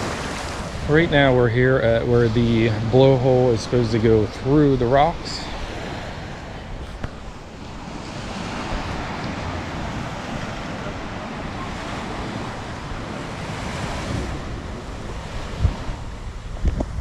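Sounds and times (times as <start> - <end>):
ocean surf on rocks: 0.0 - 17.0
wind buffeting microphone: 0.0 - 17.0.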